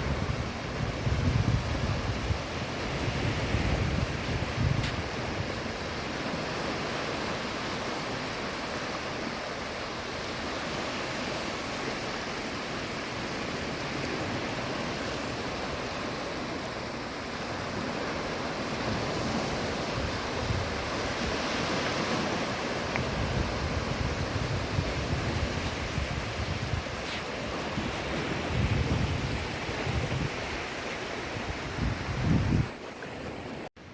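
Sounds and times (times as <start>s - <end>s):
wind rumbling on microphone: 0.0s - 7.8s, 9.1s - 33.9s
waves washing on shore: 0.0s - 33.9s.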